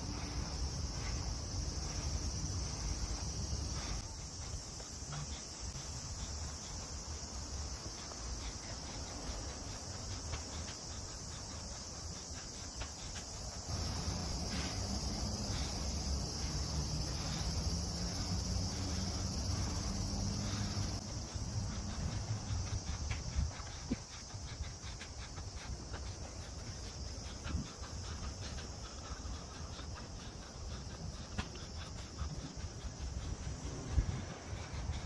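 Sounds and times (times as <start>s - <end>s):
footsteps outdoors: 0.0s - 35.0s
insects droning: 0.0s - 35.0s.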